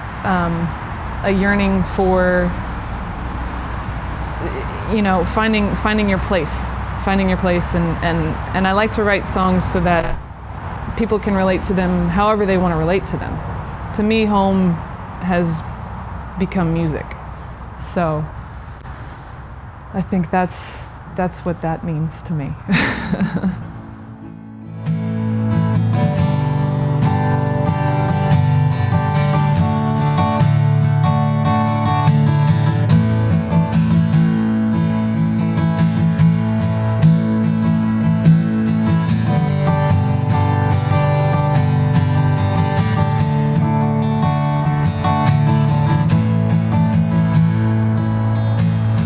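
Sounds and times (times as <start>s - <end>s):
acoustic guitar strumming: 0.0s - 20.4s, 23.5s - 49.0s.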